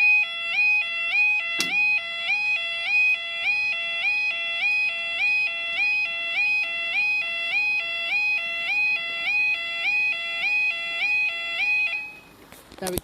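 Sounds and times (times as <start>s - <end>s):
level crossing warning alarm: 0.0s - 12.4s.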